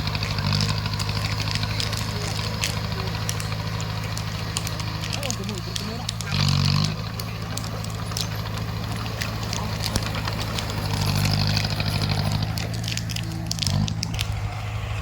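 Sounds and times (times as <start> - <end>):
sharp clicks and cracks: 0.0 - 14.4
bulldozer diesel engine: 0.0 - 15.0.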